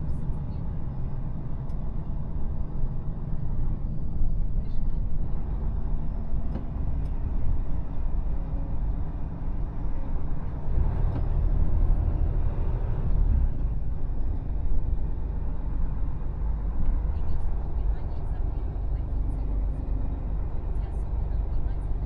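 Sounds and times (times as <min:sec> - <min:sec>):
road noise: 0:00.0 - 0:22.0
truck diesel engine: 0:00.0 - 0:22.0.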